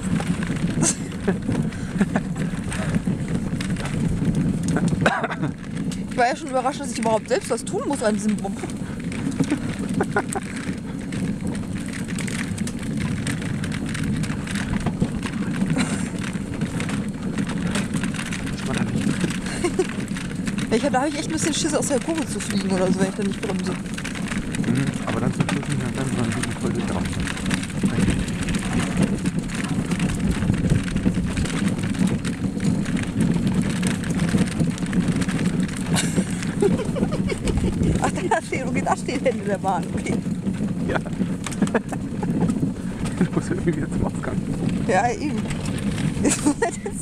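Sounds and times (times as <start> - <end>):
sled wheels rumbling on rails: 0.0 - 47.0
small clicks and rattles: 0.0 - 47.0.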